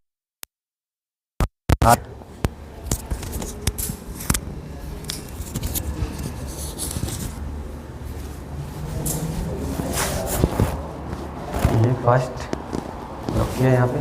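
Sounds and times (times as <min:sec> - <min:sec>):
people rustling and shuffling: 0:02.4 - 0:14.0.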